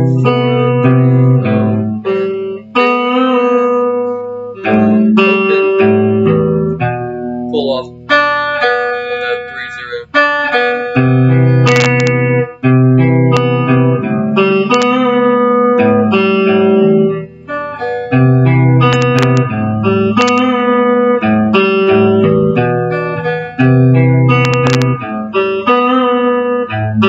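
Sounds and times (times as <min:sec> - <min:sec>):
plucked guitar riff: 0:00.0 - 0:27.0.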